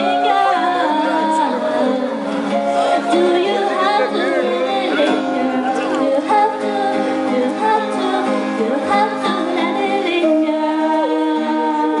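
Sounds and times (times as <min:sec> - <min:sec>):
acoustic guitar: 0:00.0 - 0:12.0
woman singing: 0:00.0 - 0:12.0.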